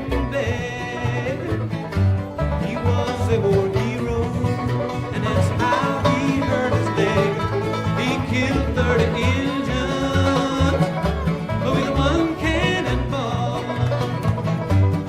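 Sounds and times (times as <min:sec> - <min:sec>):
bluegrass banjo and guitar music: 0:00.0 - 0:15.0.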